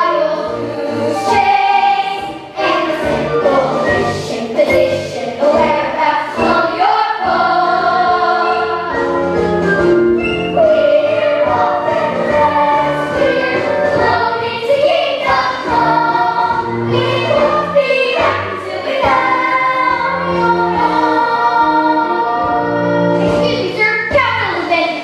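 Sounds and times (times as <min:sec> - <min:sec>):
chorus singing: 0:00.0 - 0:23.6
instrumental accompaniment: 0:00.0 - 0:24.8.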